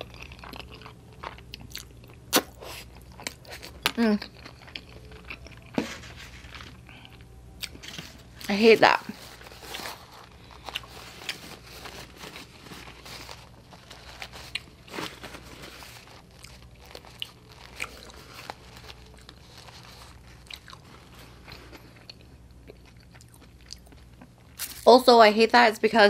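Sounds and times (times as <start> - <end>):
person chewing food: 0.0 - 8.4, 9.1 - 24.8.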